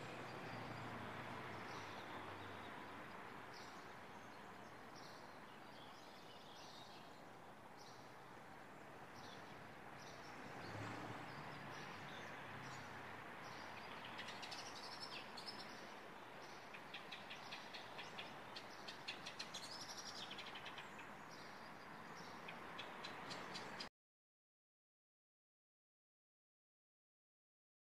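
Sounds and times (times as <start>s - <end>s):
faint steady background noise: 0.0s - 23.9s
small birds chirping: 0.0s - 23.9s.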